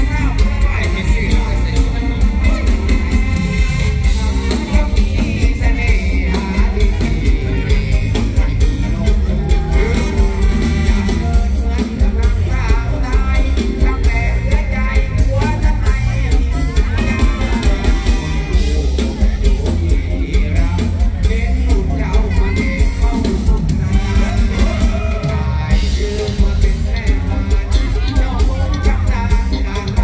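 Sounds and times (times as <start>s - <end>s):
heavy bass beat: 0.0s - 30.0s
live band music through loudspeakers: 0.0s - 30.0s
person singing: 0.0s - 30.0s.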